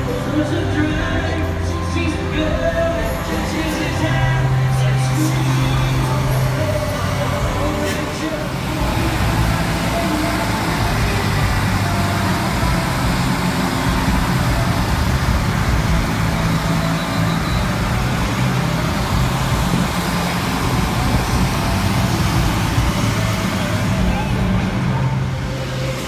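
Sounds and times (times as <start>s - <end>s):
outdoor noise: 0.0s - 26.0s.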